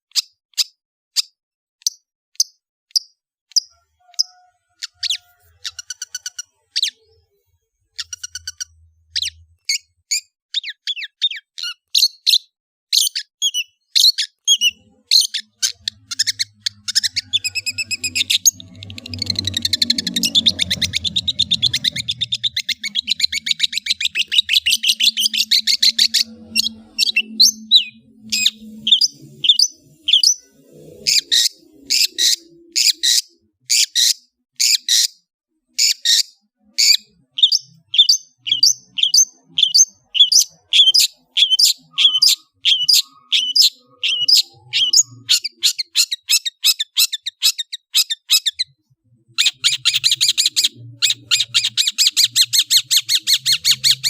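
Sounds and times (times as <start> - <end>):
bird singing: 1.8 - 35.2, 35.8 - 54.0.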